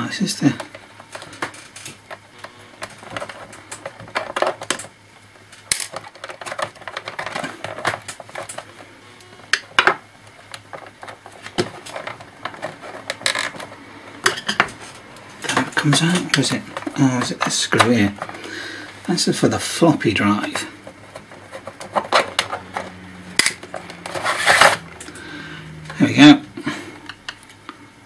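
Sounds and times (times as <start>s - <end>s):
plastic casing parts handled: 0.4s - 25.2s.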